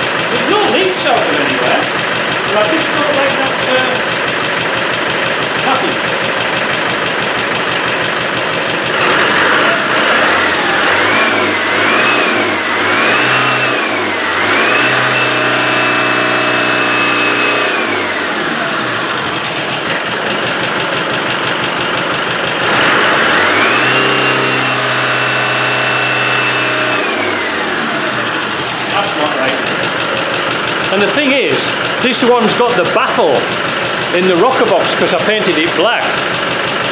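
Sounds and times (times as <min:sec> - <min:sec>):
diesel engine revving: 0:00.0 - 0:36.9.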